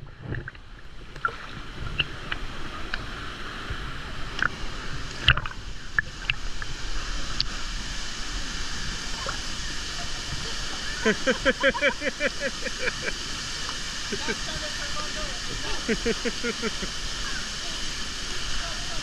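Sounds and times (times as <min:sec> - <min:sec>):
water splashing: 0:00.0 - 0:19.0
waterfall rushing: 0:01.4 - 0:19.0.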